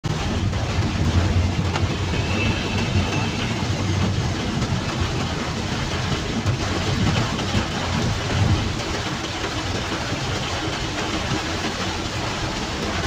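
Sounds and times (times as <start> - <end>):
rain hitting car roof: 0.0 - 13.0
tyres on wet road: 0.0 - 13.0.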